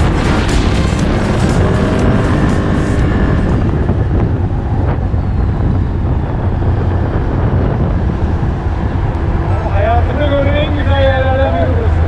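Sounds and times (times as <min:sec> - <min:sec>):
quad bike engine running: 0:00.0 - 0:10.2.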